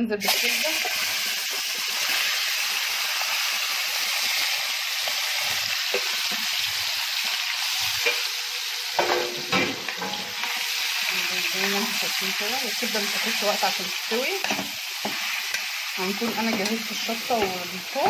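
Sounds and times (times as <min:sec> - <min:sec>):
liver sizzling in hot oil: 0:00.2 - 0:18.0.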